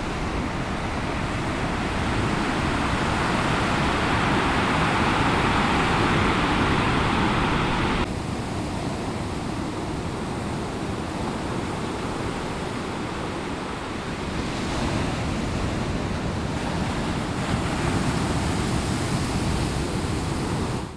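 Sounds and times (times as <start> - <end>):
surf breaking on shore: 0.0 - 20.9.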